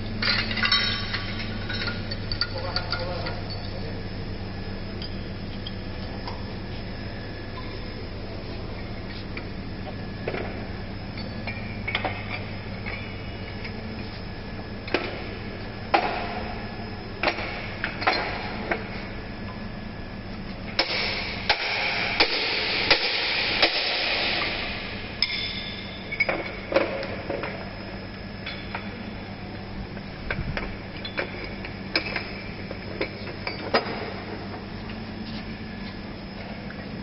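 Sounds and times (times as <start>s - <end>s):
low workshop hum: 0.0s - 37.0s.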